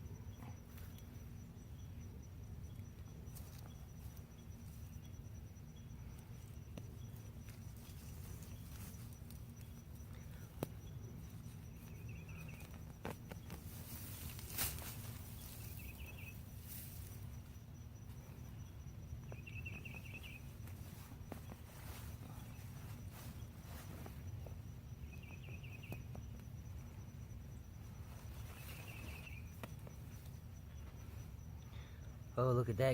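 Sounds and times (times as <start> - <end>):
steady low rumble: 0.0 - 32.8
faint high whine: 0.0 - 32.9
insects chirping trills: 0.0 - 32.9.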